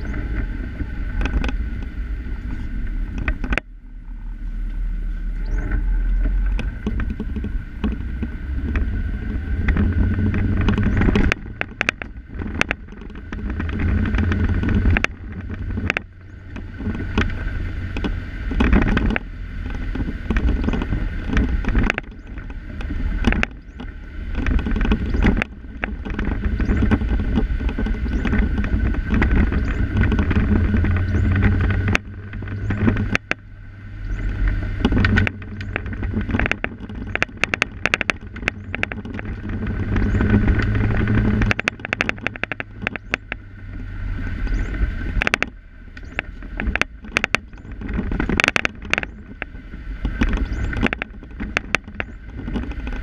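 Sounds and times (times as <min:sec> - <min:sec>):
rattling clicks in car cabin: 0:00.0 - 0:03.7, 0:05.4 - 0:53.0
car engine and road rumble: 0:00.0 - 0:53.0.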